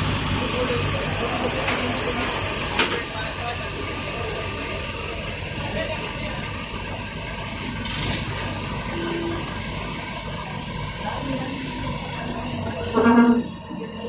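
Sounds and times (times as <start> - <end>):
heavy vehicle engine idling: 0.0 - 14.0.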